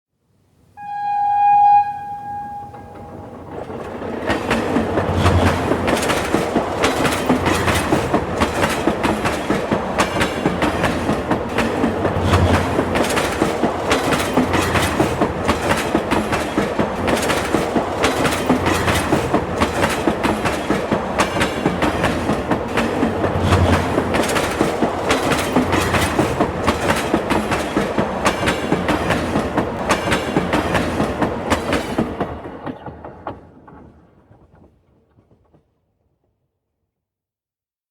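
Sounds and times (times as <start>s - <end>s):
train rumbling on tracks: 0.8s - 35.7s
wheels clickety-clack over rail joints: 2.7s - 36.2s.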